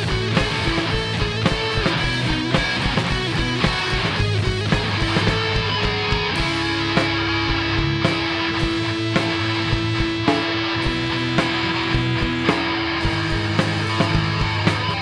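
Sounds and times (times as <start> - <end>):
drum beat: 0.0 - 15.0
electric guitar: 0.0 - 15.0.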